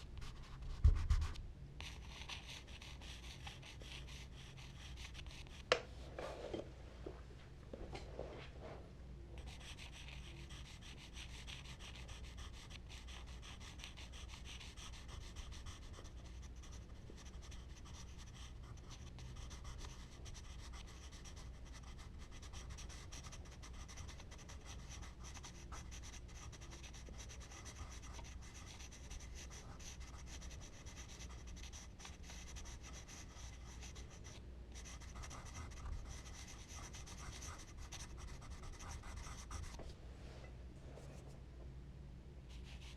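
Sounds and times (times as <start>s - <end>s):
steady low hum: 0.0s - 42.9s
charcoal scratching on paper: 0.2s - 5.6s, 9.4s - 39.8s.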